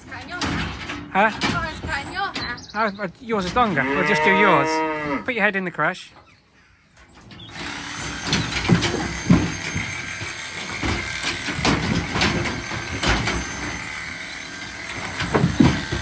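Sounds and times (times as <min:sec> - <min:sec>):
metal clanks and bangs: 0:00.0 - 0:04.8, 0:06.9 - 0:16.0.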